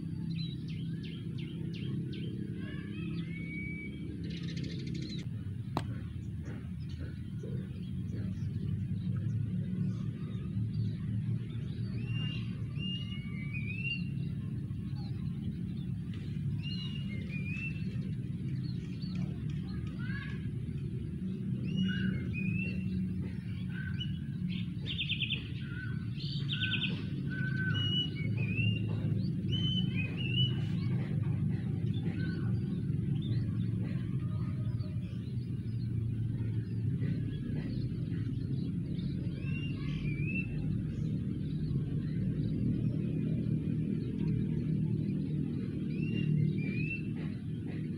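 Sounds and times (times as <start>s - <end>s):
steady low rumble: 0.0s - 47.9s.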